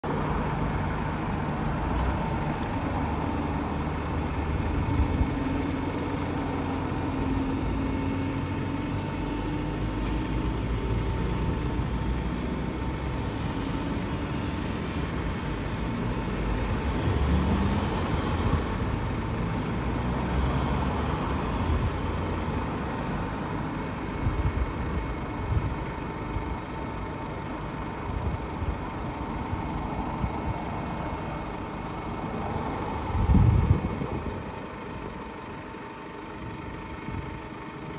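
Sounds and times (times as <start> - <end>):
cars passing: 0.0 - 24.1, 28.8 - 35.6
bus engine idling: 0.0 - 37.9.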